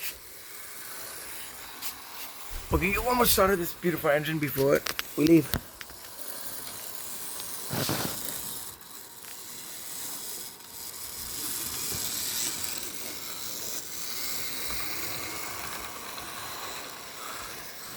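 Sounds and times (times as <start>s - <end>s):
model train motor whirring: 0.0s - 17.9s.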